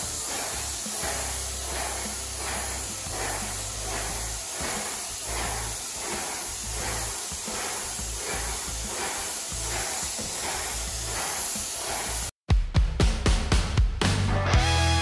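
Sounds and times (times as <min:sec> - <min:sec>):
background music with a beat: 0:00.0 - 0:11.8, 0:12.5 - 0:15.0
paint sprayer hissing: 0:00.0 - 0:12.4.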